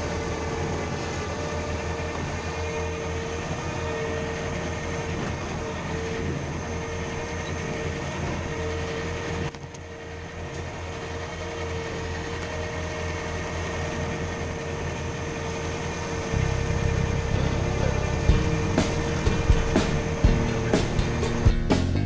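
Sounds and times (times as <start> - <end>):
brush cutter high whine: 0.0 - 22.0
diesel engine running: 0.0 - 22.0.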